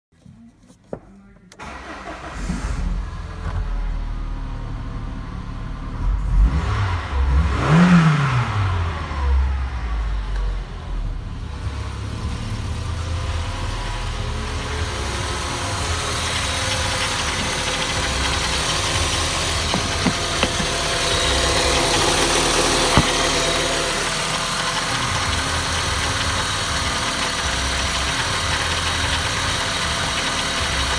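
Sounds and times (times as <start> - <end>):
car engine revving and idling: 1.6 - 30.9.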